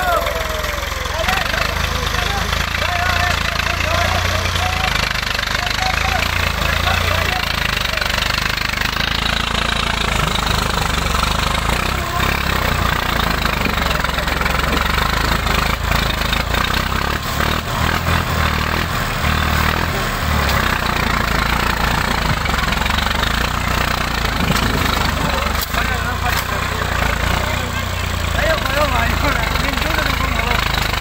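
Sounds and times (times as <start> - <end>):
tractor diesel engine rumbling: 0.0 - 31.0.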